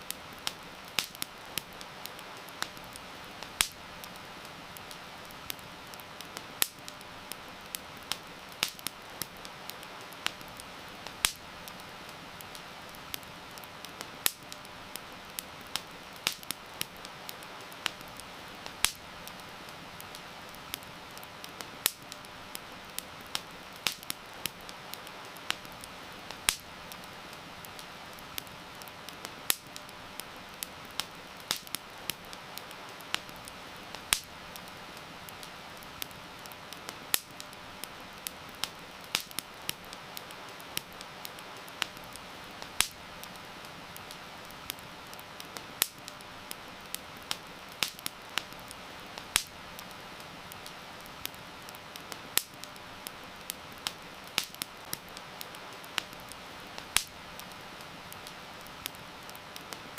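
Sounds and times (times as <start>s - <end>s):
soft steady hiss: 0.0s - 59.9s
wood fire crackling: 0.0s - 59.9s.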